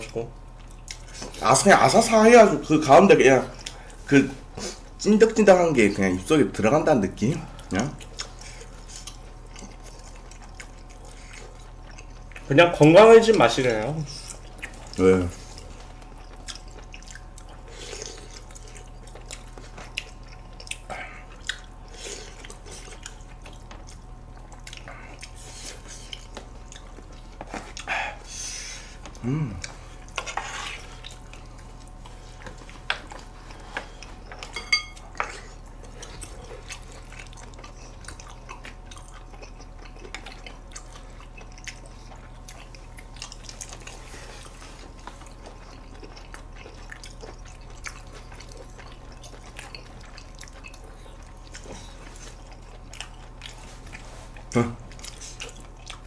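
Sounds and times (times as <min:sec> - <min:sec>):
wet chewing and smacking: 0:00.0 - 0:05.0, 0:07.2 - 0:56.0
faint steady hum: 0:00.0 - 0:56.0.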